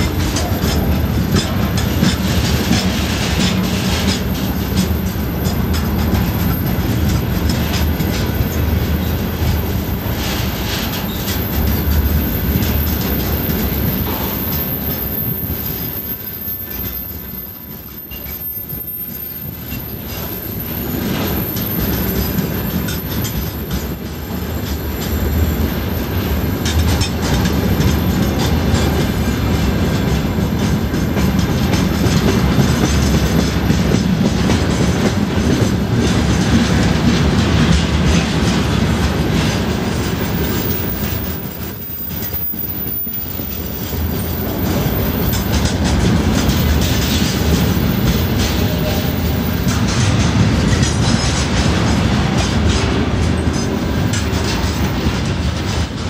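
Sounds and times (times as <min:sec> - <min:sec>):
freight train wheels rumbling on rails: 0:00.0 - 0:56.0
rail clicks: 0:00.0 - 0:56.0.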